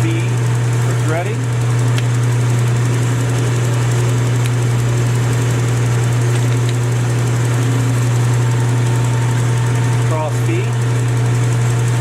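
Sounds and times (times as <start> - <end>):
lathe humming: 0.0 - 12.0.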